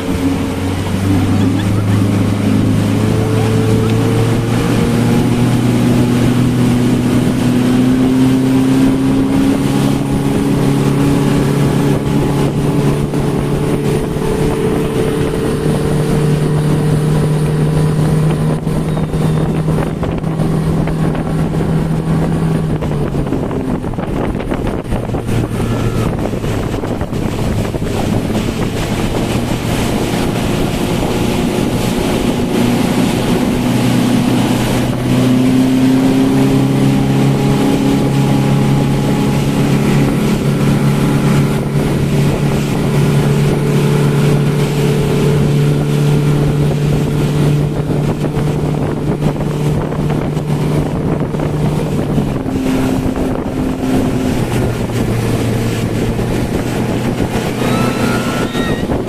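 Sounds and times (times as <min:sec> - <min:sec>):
speedboat engine running: 0:00.0 - 0:59.0
wind buffeting microphone: 0:00.0 - 0:59.0.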